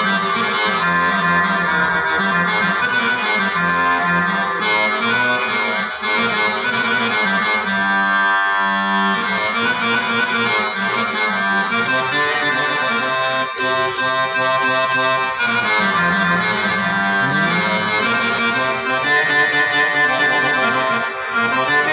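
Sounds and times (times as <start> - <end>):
accordion improvisation: 0.0 - 21.9.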